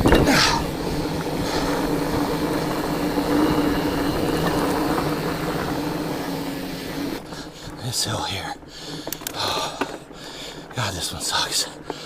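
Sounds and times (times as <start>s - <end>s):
bike tyres rolling on dirt trail: 0.0s - 12.0s.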